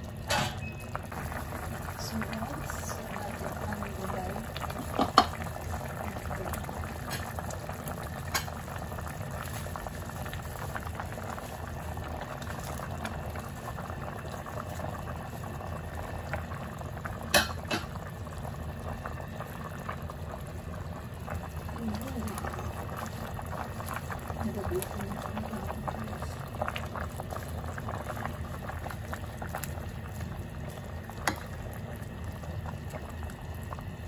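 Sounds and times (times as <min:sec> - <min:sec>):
soup boiling in a pot: 0:00.0 - 0:34.0.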